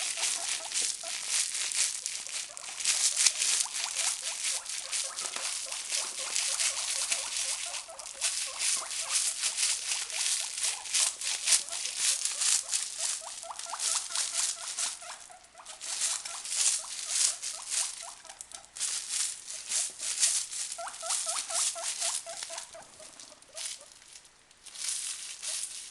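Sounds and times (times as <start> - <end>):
guinea pigs squeaking: 0.0 - 24.0
plastic bag rustling: 0.0 - 25.9.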